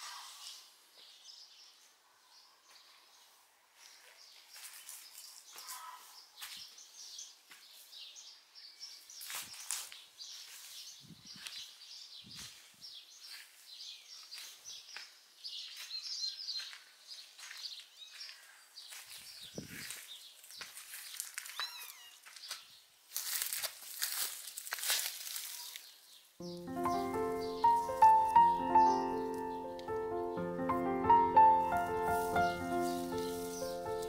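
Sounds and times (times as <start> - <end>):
small birds chirping: 0.0 - 23.5, 25.2 - 34.0.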